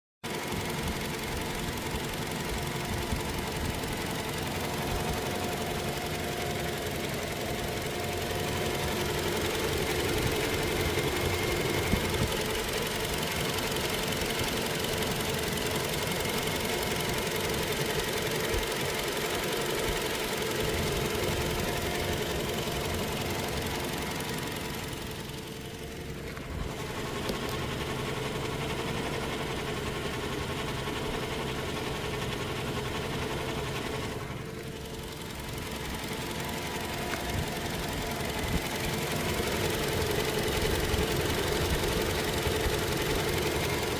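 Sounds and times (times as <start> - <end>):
diesel engine running: 0.3 - 43.9.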